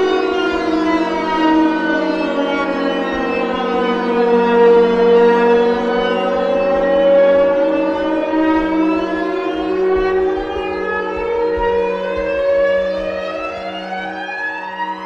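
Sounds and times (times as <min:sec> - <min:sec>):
wailing synthesizer drone: 0:00.0 - 0:15.0.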